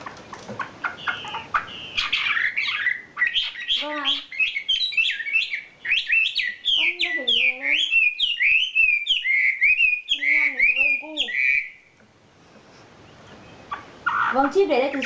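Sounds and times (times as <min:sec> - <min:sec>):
songbird chirps and trills: 0:00.0 - 0:15.0.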